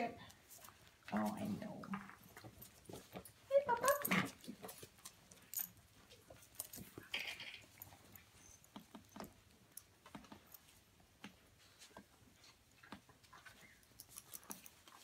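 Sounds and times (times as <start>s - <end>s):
puppies pattering and scuffling: 0.0s - 15.0s.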